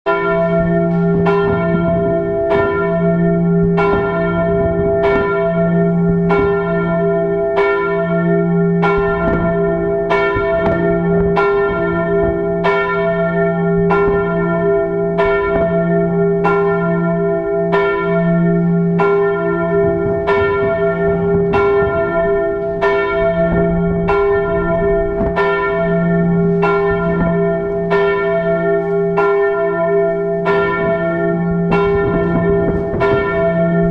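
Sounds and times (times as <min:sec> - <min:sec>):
church bells pealing: 0:00.0 - 0:33.9.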